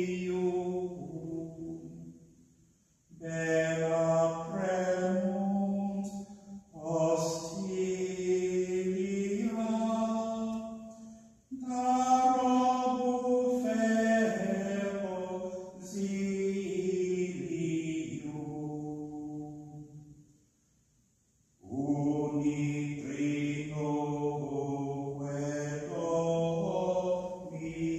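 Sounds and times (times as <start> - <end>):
low voice singing a chant: 0.0 - 2.2, 3.1 - 20.0, 21.6 - 27.9.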